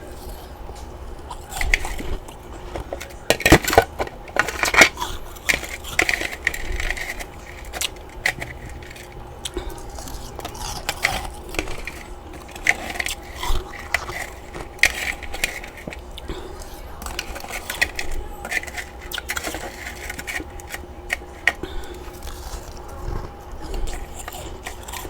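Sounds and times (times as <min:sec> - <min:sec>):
crunching frost being chewed: 0:00.0 - 0:25.0.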